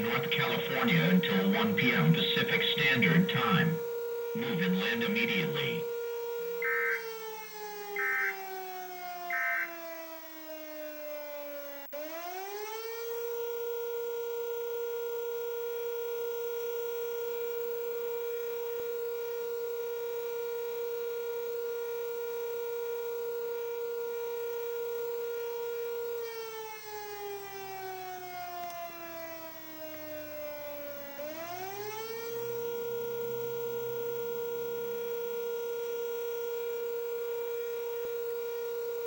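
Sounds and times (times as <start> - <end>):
warning siren: 0.0 - 39.0.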